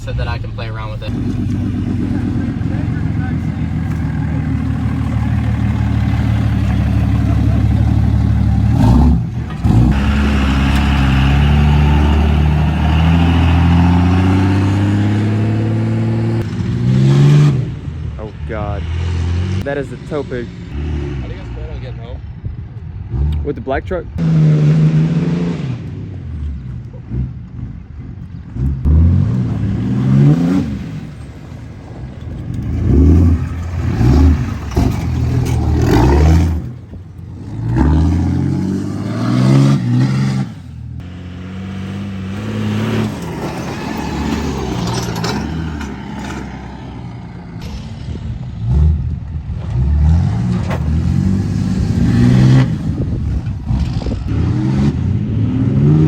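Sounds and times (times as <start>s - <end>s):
diesel truck engine revving: 0.0s - 22.2s, 22.8s - 56.0s.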